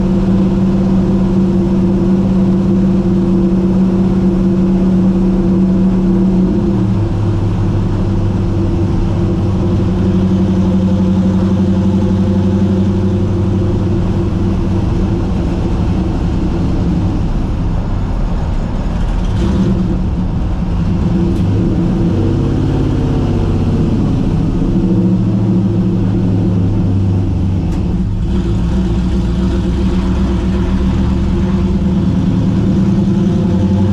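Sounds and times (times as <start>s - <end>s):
car engine droning: 0.0s - 33.9s.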